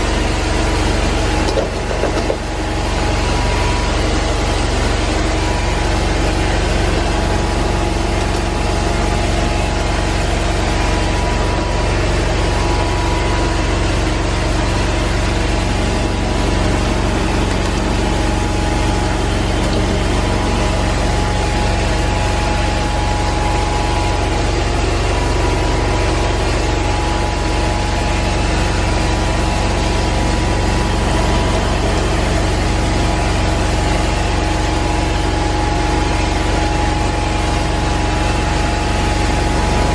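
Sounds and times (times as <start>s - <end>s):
carpet extraction machine droning: 0.0s - 39.9s.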